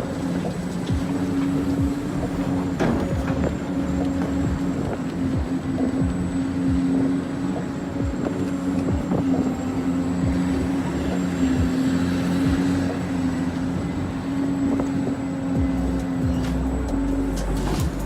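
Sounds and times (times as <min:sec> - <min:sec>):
small electric motors humming: 0:00.0 - 0:18.0.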